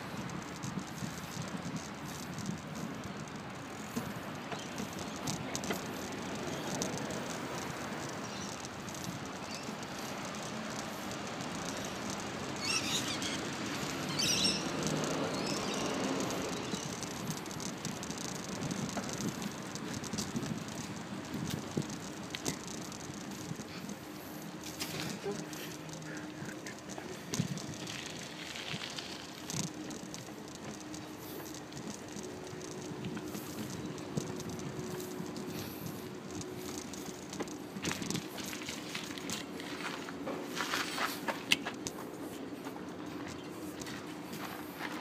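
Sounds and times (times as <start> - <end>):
small clicks: 0.0 - 40.2.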